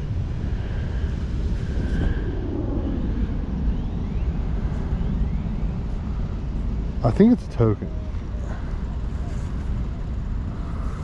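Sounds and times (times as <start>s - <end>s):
low rumbling outdoor background: 0.0s - 11.0s.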